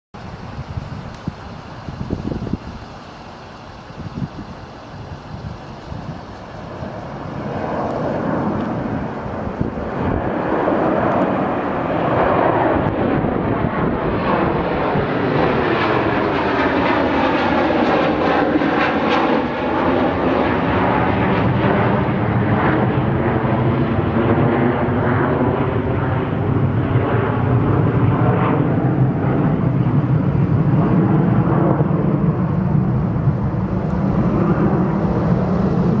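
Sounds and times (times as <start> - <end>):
jet airliner taking off: 0.2 - 36.0.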